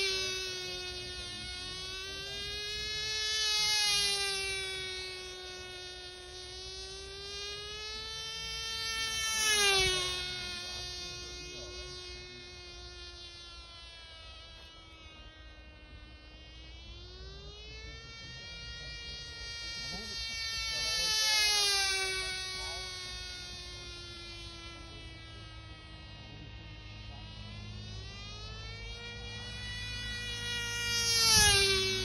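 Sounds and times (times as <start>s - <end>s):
model airplane engine buzzing: 0.0s - 32.0s.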